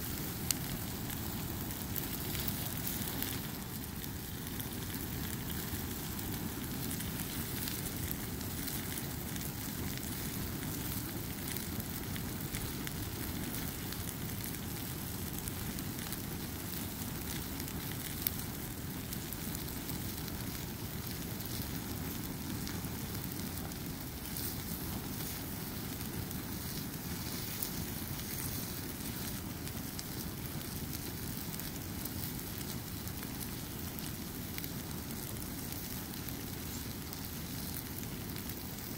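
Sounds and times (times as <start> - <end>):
fire rushing and crackling: 0.0 - 38.9.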